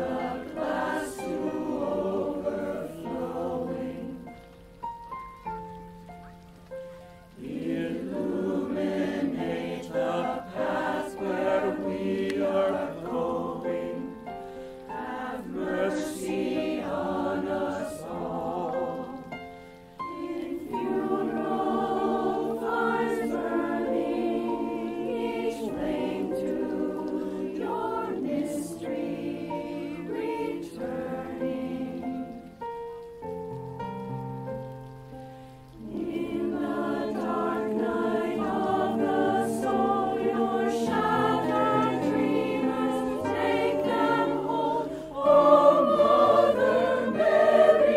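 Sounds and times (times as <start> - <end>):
choir singing a requiem: 0.0 - 4.4, 7.3 - 32.8, 35.8 - 47.9.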